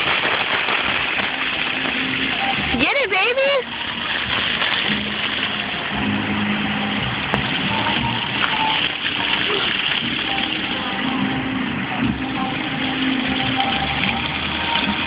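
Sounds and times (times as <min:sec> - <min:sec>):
fountain jets spraying onto paving: 0:00.0 - 0:15.0.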